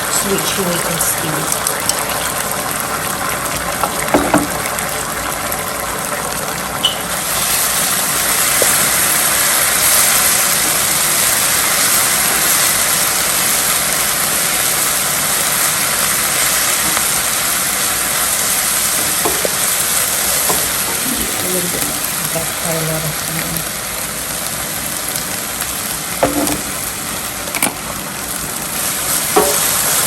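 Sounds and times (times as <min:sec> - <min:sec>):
onions sizzling in a frying pan: 0:00.0 - 0:30.0.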